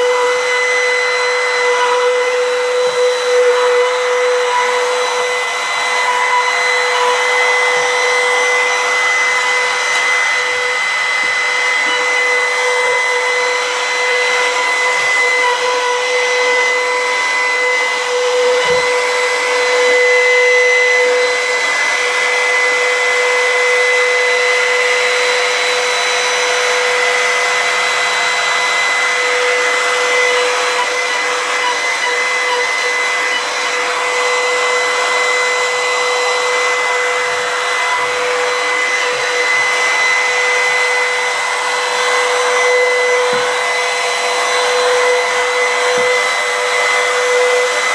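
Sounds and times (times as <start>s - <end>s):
router whining cutting wood: 0.0s - 47.9s.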